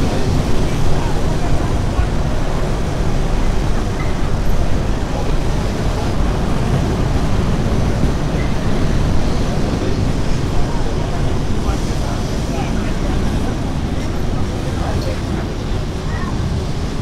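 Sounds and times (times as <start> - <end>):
streetcar running on rails: 0.0 - 17.0.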